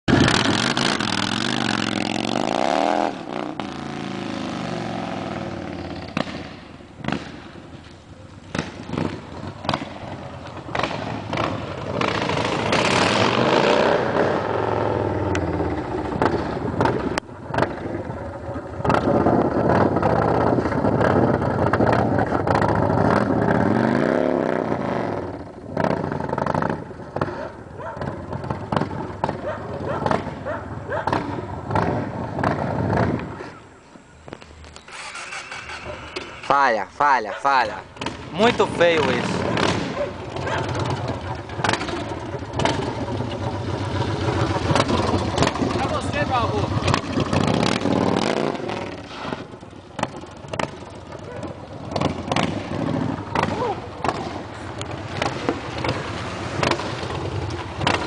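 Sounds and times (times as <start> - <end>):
motorcycle engine revving: 0.0 - 33.6, 34.7 - 58.0.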